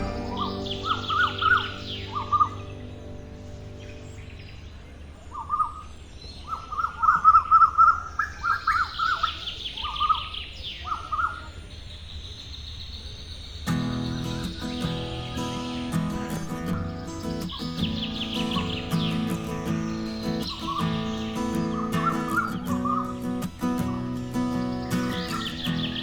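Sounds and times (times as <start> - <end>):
bird trill: 0.0 - 26.0
small birds chirping: 0.0 - 26.0.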